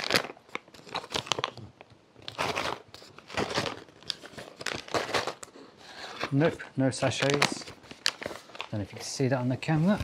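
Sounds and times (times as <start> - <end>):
plastic pouch crinkling and rustling: 0.0 - 10.0.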